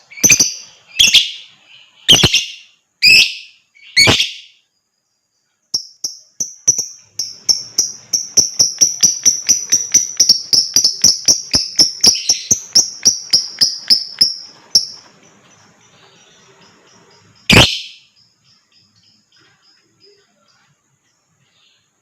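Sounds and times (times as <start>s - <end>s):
lovebird rapid high chirps: 0.0s - 4.7s, 5.7s - 21.2s.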